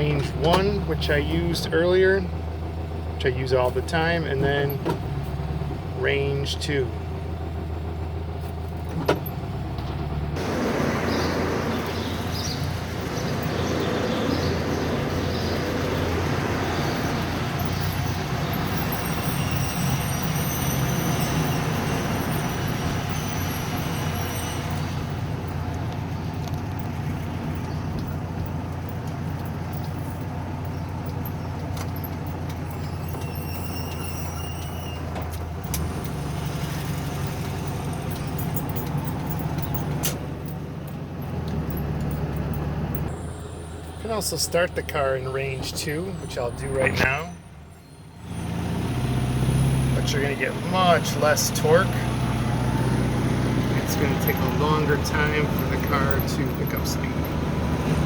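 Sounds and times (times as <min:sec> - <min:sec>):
car engine running: 0:00.0 - 0:47.5, 0:49.8 - 0:58.0
road and traffic noise: 0:00.0 - 0:58.0.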